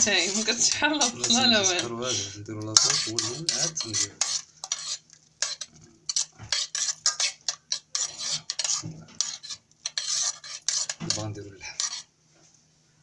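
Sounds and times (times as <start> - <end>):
spoon scraping sauce in metal pot: 0.0 - 12.1.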